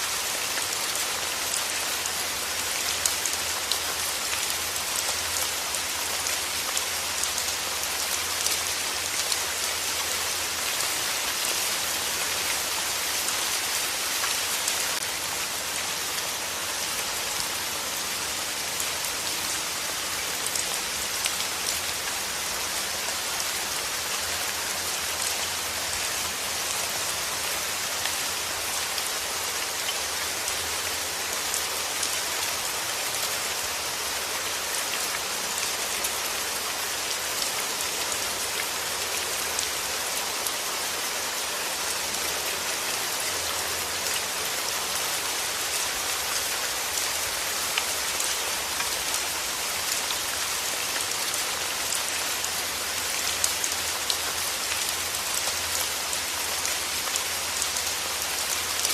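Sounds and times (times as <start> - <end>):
heavy rain falling on a surface: 0.0 - 58.9.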